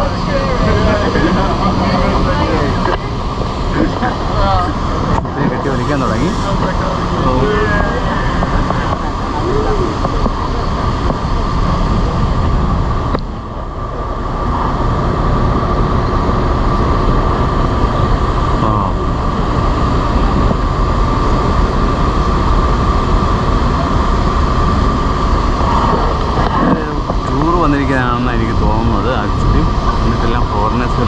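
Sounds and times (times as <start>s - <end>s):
machinery high whine: 0.0s - 31.0s
wind rumbling on microphone: 0.0s - 31.0s.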